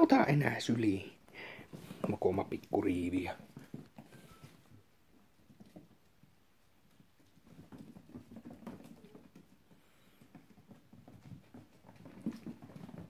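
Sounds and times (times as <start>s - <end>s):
puppy paws pattering on wooden floor: 0.0s - 13.0s.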